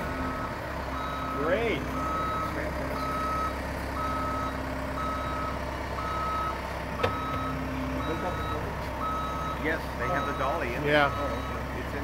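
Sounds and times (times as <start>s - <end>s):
low engine hum: 0.0s - 12.0s
back-up alarm beeping: 0.2s - 11.7s.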